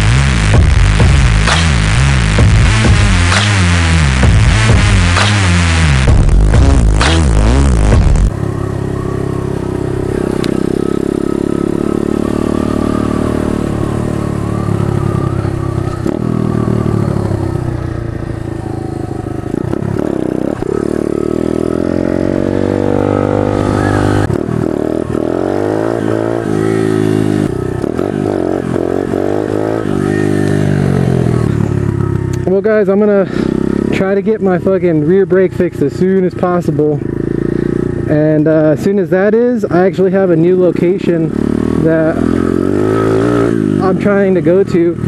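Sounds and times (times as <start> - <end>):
motorbike engine revving: 0.0 - 45.0.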